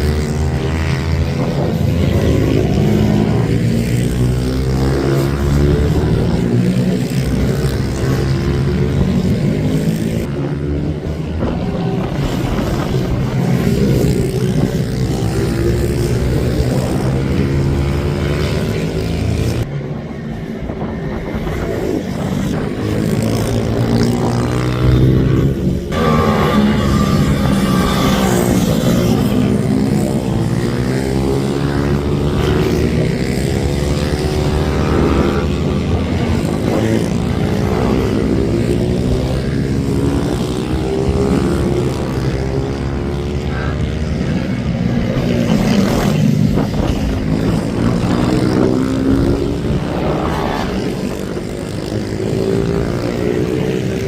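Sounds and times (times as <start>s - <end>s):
minibike engines revving: 0.0s - 54.0s.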